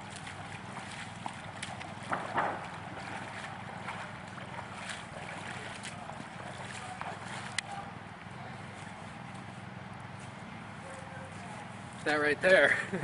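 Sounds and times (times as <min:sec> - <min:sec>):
flowing stream water: 0:00.0 - 0:13.0.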